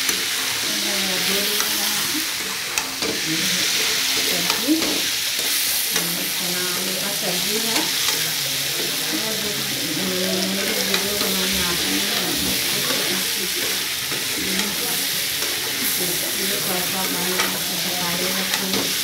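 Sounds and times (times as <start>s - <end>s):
curry sizzling in a pan: 0.0s - 19.0s.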